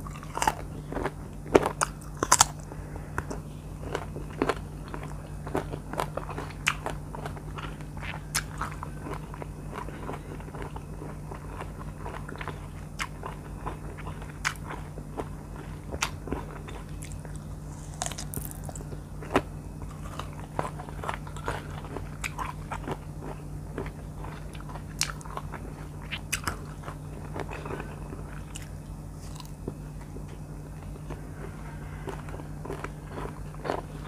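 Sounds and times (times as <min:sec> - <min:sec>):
crunching and chewing mango: 0:00.0 - 0:34.0
low hum: 0:00.0 - 0:34.0.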